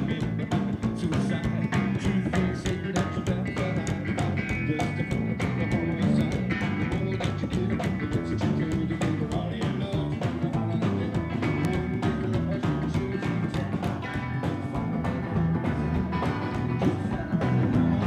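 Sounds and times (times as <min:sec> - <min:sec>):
drum kit beat: 0:00.0 - 0:18.0
rockabilly band playing: 0:00.0 - 0:18.0
upright bass: 0:00.0 - 0:18.0.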